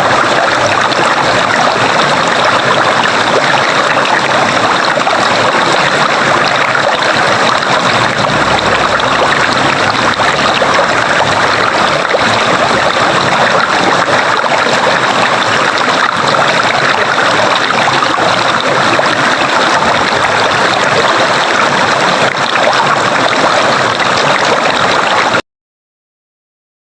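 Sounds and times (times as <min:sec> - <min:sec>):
stream water rushing: 0:00.0 - 0:25.4.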